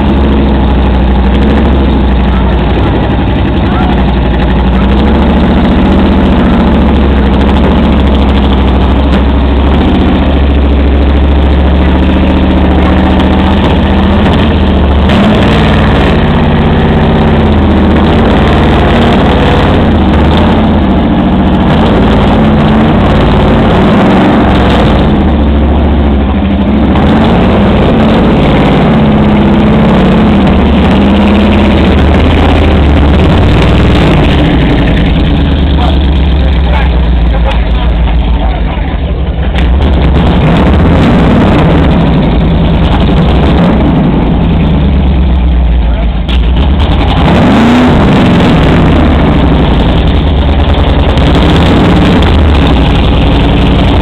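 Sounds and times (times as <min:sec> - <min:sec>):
race car engine idling loudly: 0:00.0 - 0:54.0.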